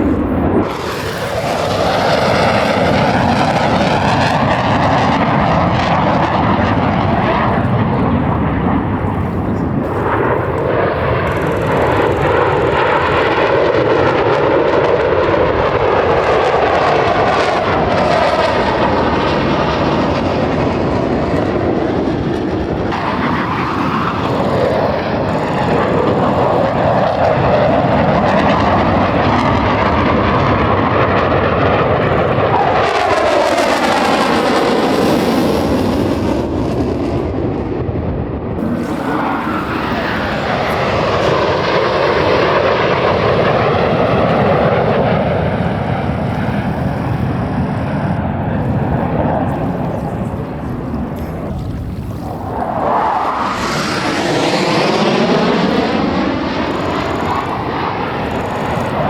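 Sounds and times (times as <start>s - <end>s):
jet engines flying past: 0.0s - 59.0s.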